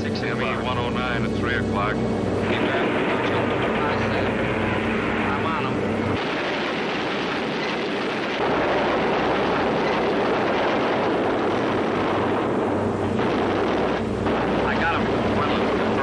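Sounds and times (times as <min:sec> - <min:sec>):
aircraft piston engines rumbling: 0:00.0 - 0:16.0.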